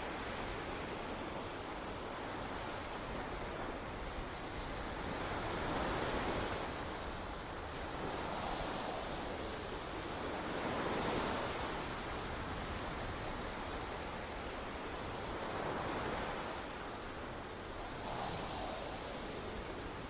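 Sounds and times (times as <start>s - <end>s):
ocean waves washing onto beach: 0.0s - 20.0s.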